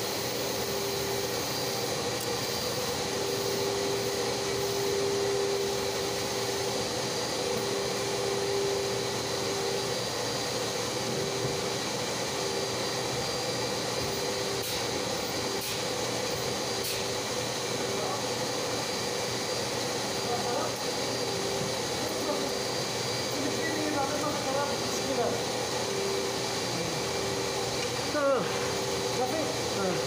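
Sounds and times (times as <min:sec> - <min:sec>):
oil pump humming and hissing: 0:00.0 - 0:30.0.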